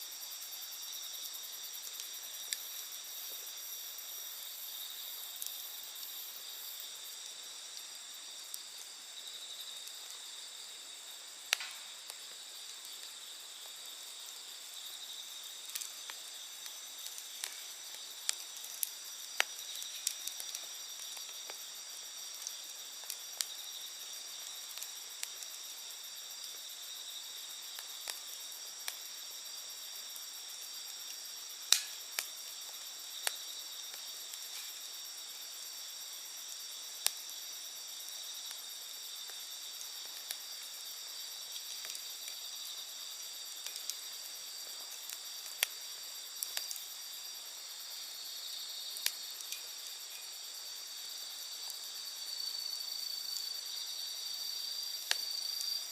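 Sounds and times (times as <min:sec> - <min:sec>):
insects chorus: 0:00.0 - 0:55.9
campfire crackling and popping: 0:00.1 - 0:55.9.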